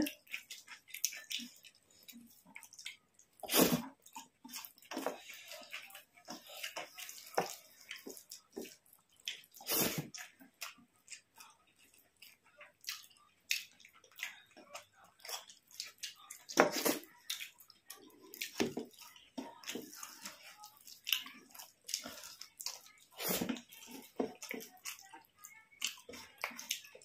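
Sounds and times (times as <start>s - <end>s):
wet smacking and chewing: 0.0s - 27.0s.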